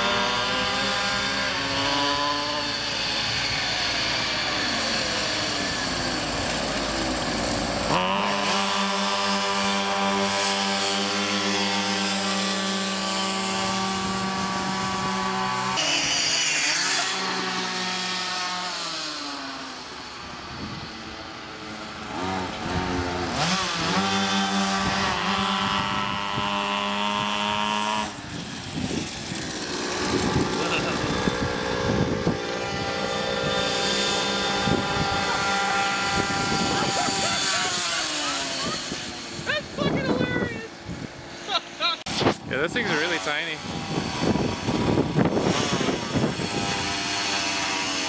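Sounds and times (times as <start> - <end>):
minibike engine revving: 0.0 - 48.0.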